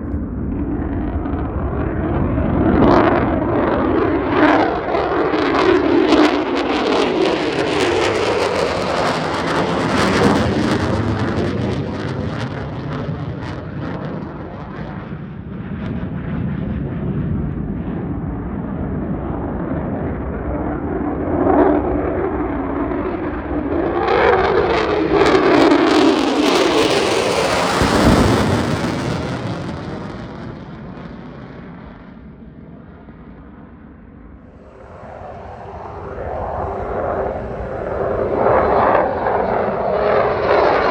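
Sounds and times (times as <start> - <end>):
fighter jet engine roar: 0.0 - 40.9.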